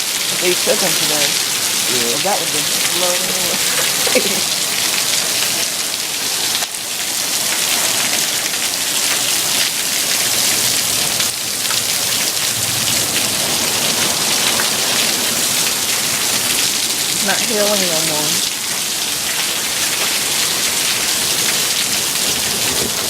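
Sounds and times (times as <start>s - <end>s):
heavy rain pattering: 0.0s - 23.0s.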